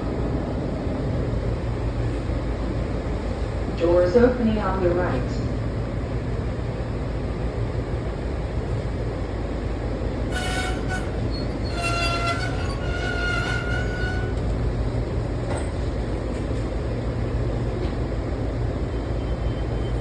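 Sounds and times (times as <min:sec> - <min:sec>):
train rumble and hiss: 0:00.0 - 0:20.0.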